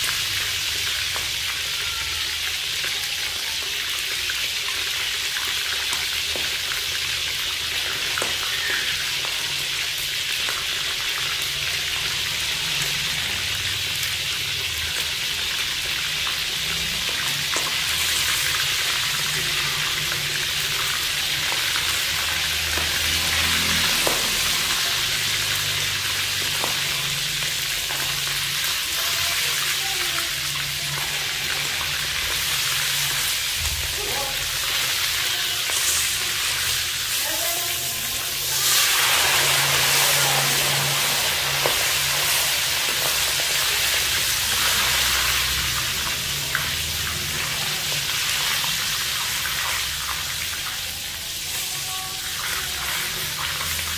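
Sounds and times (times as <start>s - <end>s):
frying in hot oil: 0.0s - 53.9s
oil crackling: 4.6s - 53.9s.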